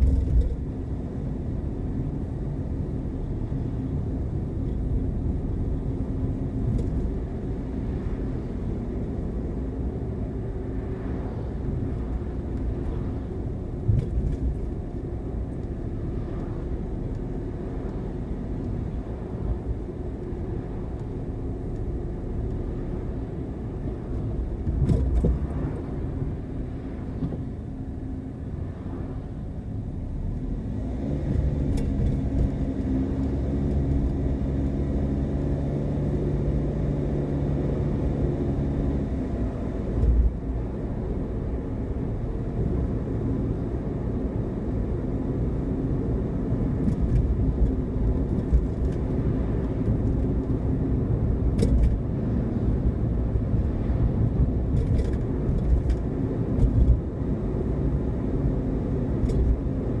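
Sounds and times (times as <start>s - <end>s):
car engine and road noise: 0.0s - 60.0s
engine hum: 0.0s - 60.0s.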